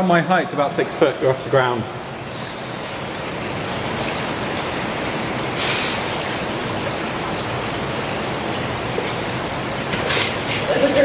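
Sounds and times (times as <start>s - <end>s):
cave stream running: 0.0s - 11.0s.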